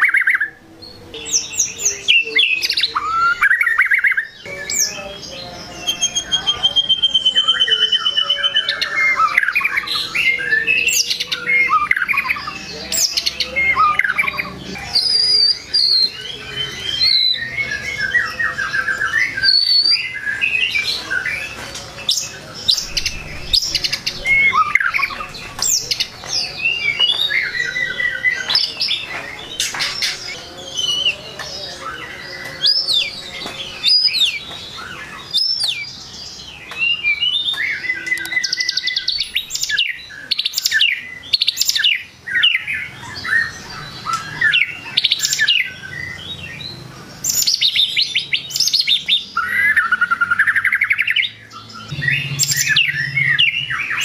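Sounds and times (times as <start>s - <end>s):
songbird whistling and trilling: 0.0s - 5.0s, 5.7s - 54.0s.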